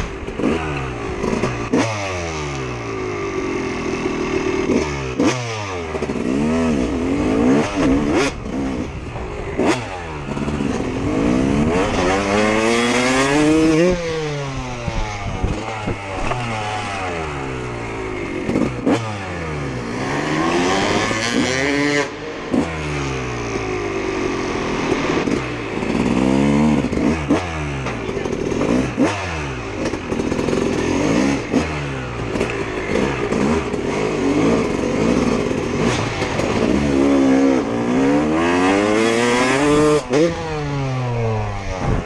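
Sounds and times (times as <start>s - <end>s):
motocross bike engine revving: 0.0s - 42.0s.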